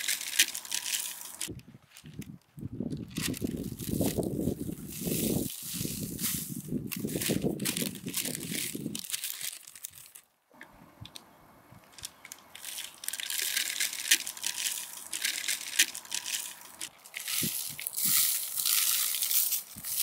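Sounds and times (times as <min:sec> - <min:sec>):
paper crinkling and rustling: 0:00.0 - 0:10.3, 0:11.9 - 0:20.0.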